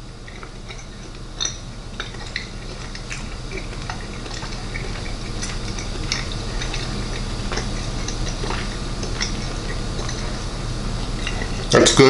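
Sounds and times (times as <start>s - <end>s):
low hum: 0.0s - 12.0s
person chewing: 0.2s - 11.8s.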